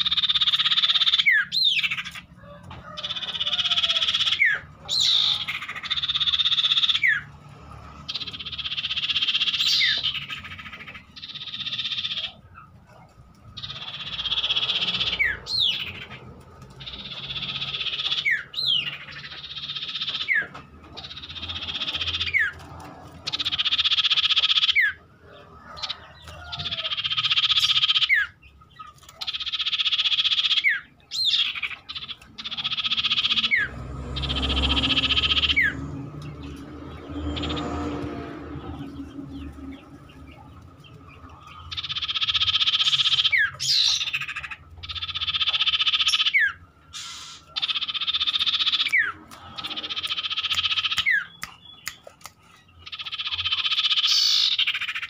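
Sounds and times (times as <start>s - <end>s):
bird singing buzzy trills: 0.0s - 2.3s, 3.0s - 25.2s, 25.8s - 55.0s.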